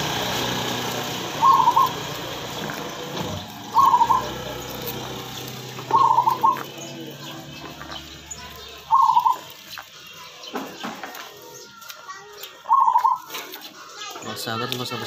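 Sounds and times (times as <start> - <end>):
bird calling: 0.9 - 11.8, 12.4 - 15.0.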